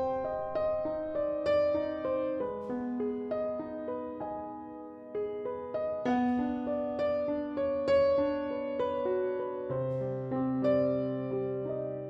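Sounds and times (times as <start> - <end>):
soft electric piano music: 0.0 - 12.0.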